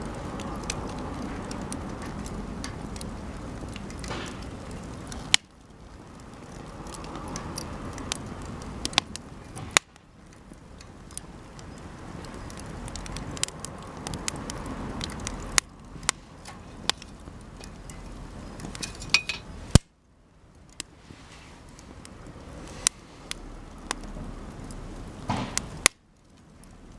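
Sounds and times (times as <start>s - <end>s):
wood snapping cracks: 0.0s - 20.0s, 22.8s - 26.9s
campfire crackling: 0.0s - 26.9s.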